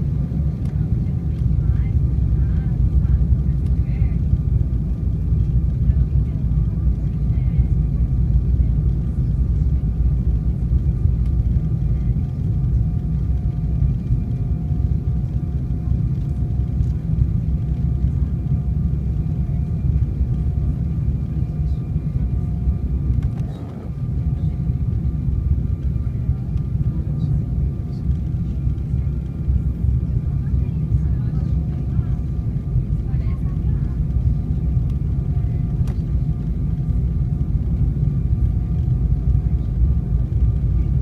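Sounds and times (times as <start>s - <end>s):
jet engine and airflow rumble: 0.0s - 41.0s.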